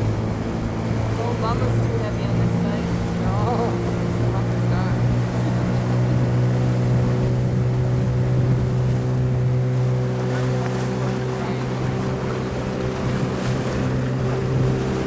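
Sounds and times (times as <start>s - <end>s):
motorboat engine running: 0.0s - 15.0s
water rushing along hull: 0.0s - 15.0s.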